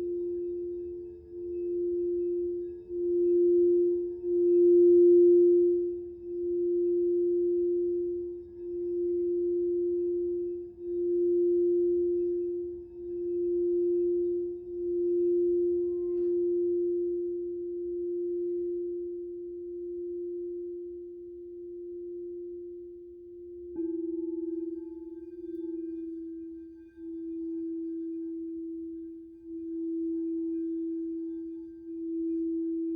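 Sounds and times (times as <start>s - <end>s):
singing bowl low tone: 0.0s - 32.9s.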